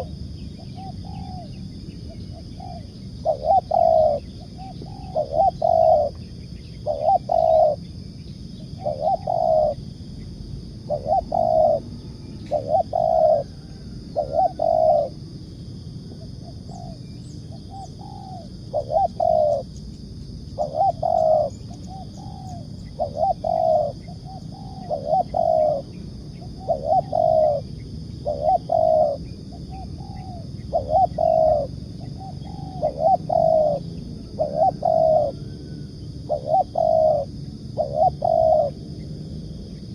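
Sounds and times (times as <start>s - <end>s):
dove cooing: 0.0s - 7.9s, 8.6s - 9.8s, 10.8s - 15.3s, 16.1s - 19.8s, 20.4s - 39.0s
high-pitched background hum: 0.0s - 39.9s.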